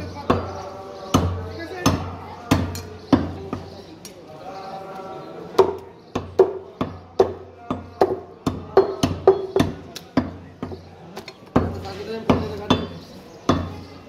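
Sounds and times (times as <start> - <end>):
cleaver chopping meat on wood: 0.2 - 3.8, 5.6 - 13.9.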